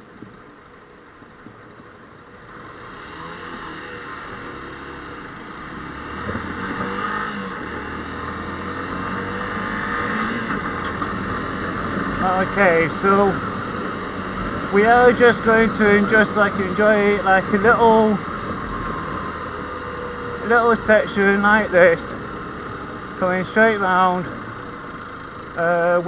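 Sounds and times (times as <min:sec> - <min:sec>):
motorcycle pulling away: 0:01.5 - 0:26.0.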